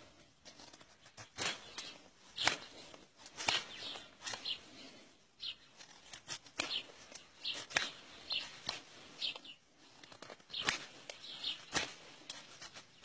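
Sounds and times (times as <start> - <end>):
knife scraping wooden stick: 0.0 - 13.0.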